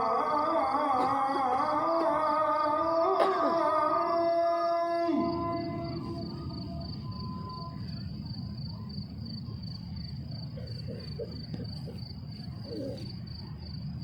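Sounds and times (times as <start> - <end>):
cricket chirping: 0.0 - 14.0
low ambient rumble: 0.0 - 14.0.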